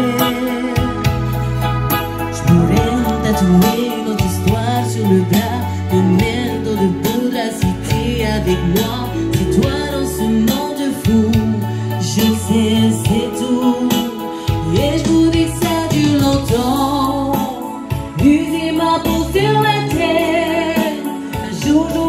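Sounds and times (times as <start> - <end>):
electronic keyboard music with beat: 0.0 - 22.0
woman singing: 0.0 - 22.0.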